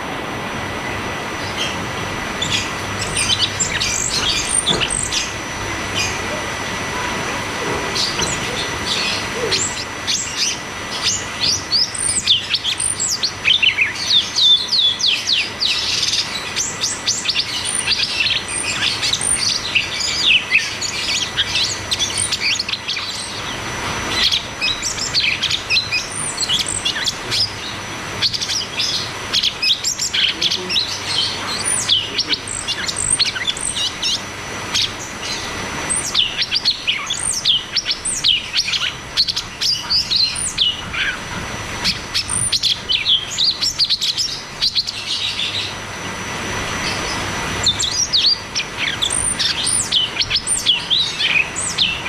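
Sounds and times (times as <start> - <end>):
bird singing rapid chirping song: 1.3 - 6.4, 7.9 - 45.8, 46.8 - 52.0.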